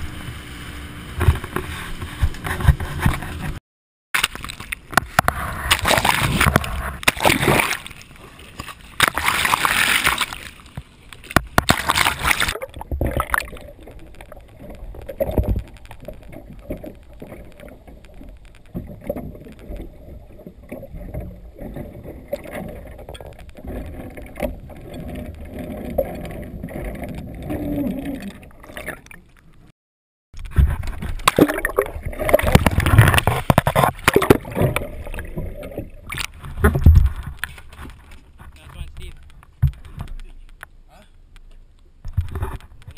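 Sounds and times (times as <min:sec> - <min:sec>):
water rushing and splashing: 0:04.2 - 0:29.6, 0:30.6 - 0:40.3.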